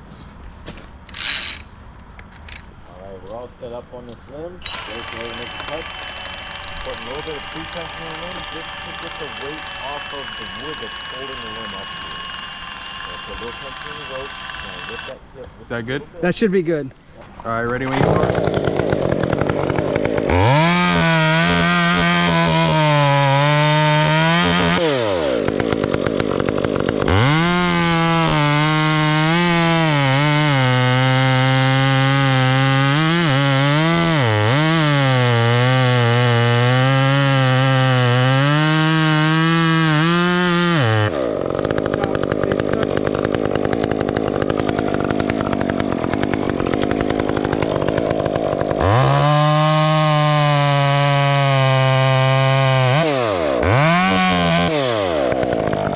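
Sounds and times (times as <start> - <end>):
chainsaw cutting wood: 0.7 - 3.4, 4.0 - 15.2, 17.7 - 55.9.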